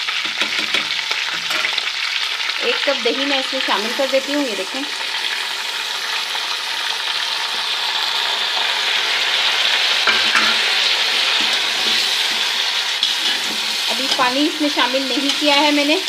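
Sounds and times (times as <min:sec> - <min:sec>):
food sizzling in hot fat: 0:00.0 - 0:16.0.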